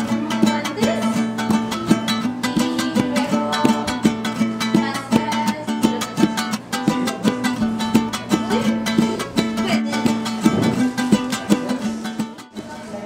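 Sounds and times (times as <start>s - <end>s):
plucked string latin music: 0.0s - 13.0s.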